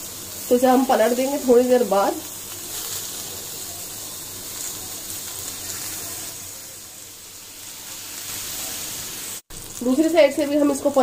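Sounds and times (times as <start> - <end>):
kebabs sizzling in a grill pan: 0.0 - 11.0.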